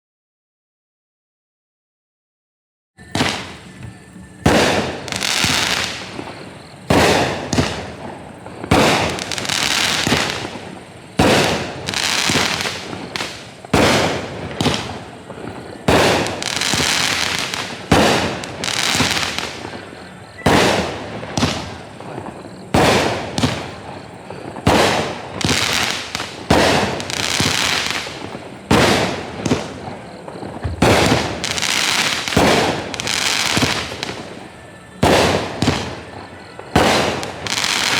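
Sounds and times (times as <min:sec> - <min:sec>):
loud hissing firework tails: 0:03.0 - 0:37.9
firework shots banging: 0:03.1 - 0:37.9.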